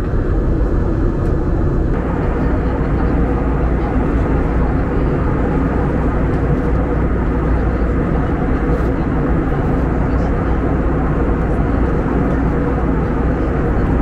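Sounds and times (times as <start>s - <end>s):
aircraft cabin drone: 0.0s - 14.0s.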